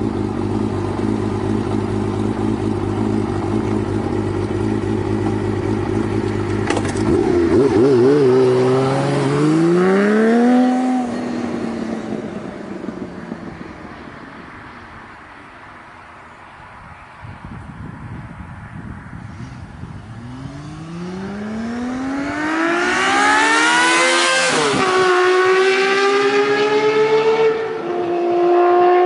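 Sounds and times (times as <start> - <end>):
motorcycle engine idling and revving: 0.0 - 29.0.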